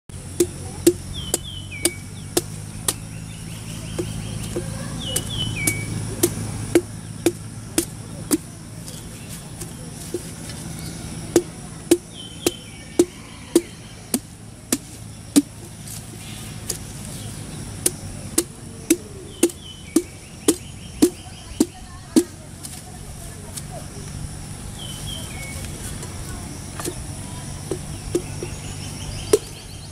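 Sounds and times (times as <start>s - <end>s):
knife chopping coconut husk: 0.2s - 22.8s, 26.7s - 29.9s.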